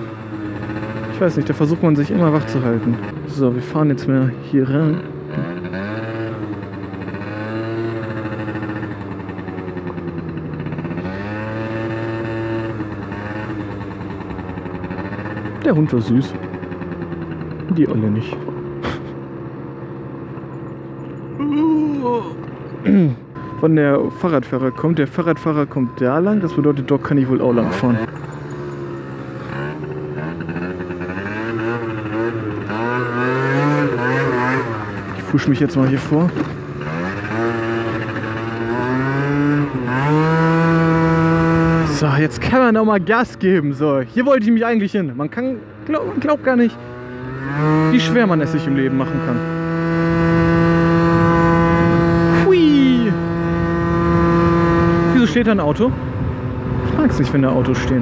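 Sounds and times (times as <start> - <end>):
scooter two-stroke engine running: 0.0 - 42.7, 45.6 - 55.4.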